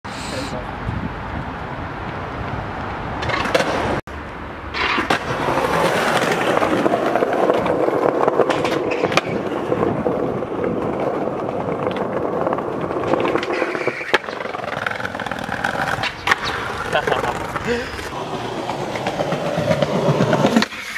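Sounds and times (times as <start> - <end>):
skateboard wheels rolling on paving: 0.6 - 20.9
skateboard clacking on ground: 3.2 - 4.0, 4.7 - 20.9.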